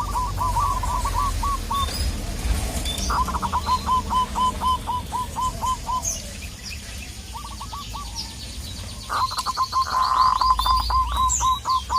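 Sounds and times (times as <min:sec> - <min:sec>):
doves rapid staccato cooing: 0:00.0 - 0:08.4, 0:09.0 - 0:11.9
small birds chirping: 0:00.0 - 0:11.9.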